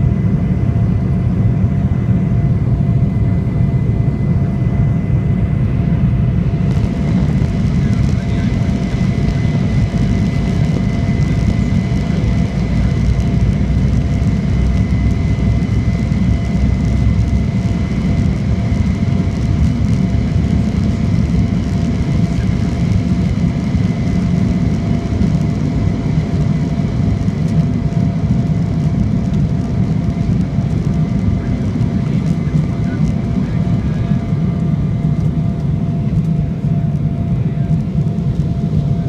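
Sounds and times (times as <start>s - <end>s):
jet engines rumbling and whining: 0.0s - 39.0s.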